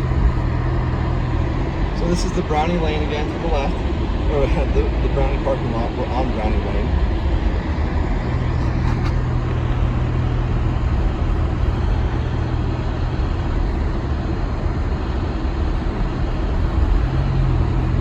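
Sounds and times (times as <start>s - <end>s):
engine hum inside vehicle: 0.0s - 18.0s
road noise: 0.0s - 18.0s.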